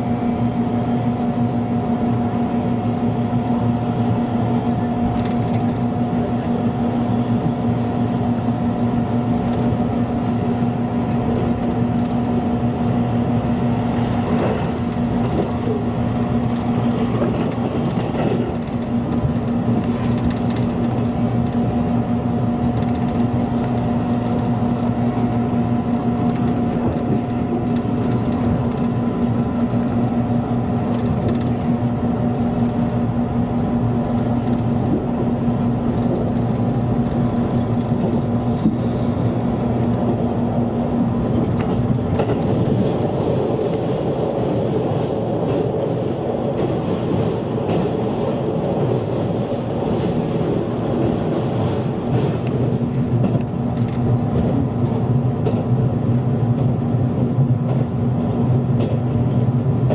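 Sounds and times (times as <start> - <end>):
even train hum: 0.0 - 59.9
train wheels rumbling on rails: 0.0 - 59.9.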